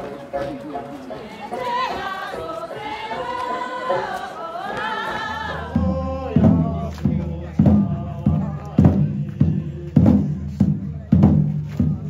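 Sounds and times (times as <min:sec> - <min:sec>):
group singing folk melody: 0:00.0 - 0:12.0.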